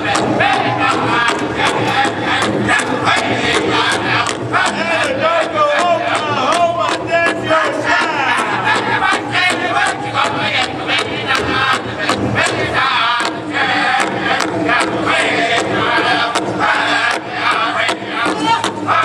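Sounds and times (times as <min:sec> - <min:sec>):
bass drum beating: 0:00.0 - 0:19.0
high-pitched group singing: 0:00.0 - 0:19.0
large crowd noise: 0:00.0 - 0:19.0.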